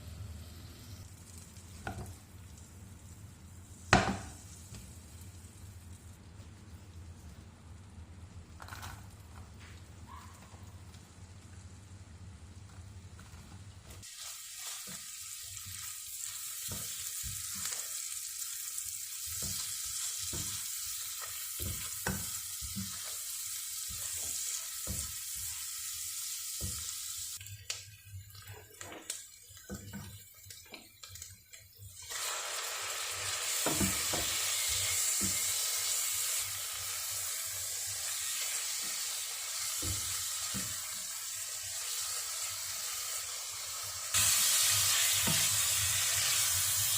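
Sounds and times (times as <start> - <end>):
food sizzling in a frying pan: 0.0 - 6.3, 13.9 - 46.9.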